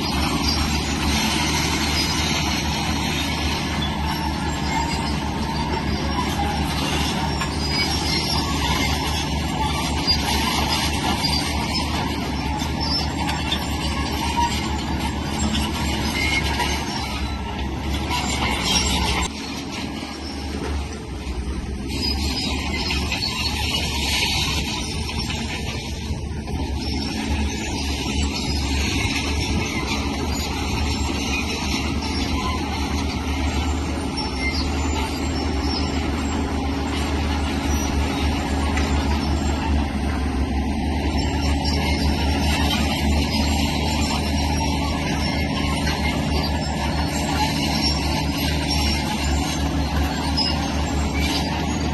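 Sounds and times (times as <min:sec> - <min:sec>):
diesel engine humming: 0:00.0 - 0:51.9
metallic clatter of crawler tracks: 0:00.0 - 0:51.9.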